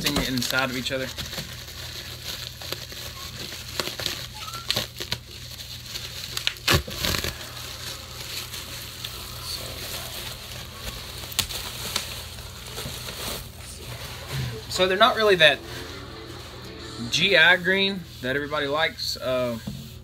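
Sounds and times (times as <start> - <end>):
bubble wrap crinkling and rustling: 0.0 - 20.0.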